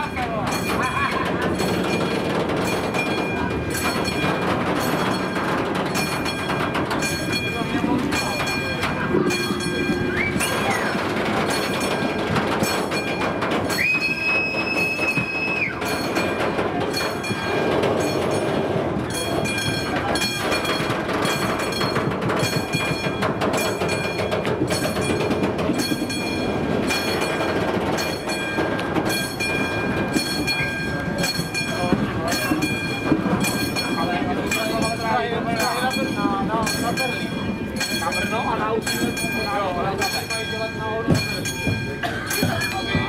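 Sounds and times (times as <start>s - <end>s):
crossing warning bell ringing: 0.0s - 43.0s
train rolling over crossing: 0.0s - 43.0s
high steady tone: 0.5s - 43.0s.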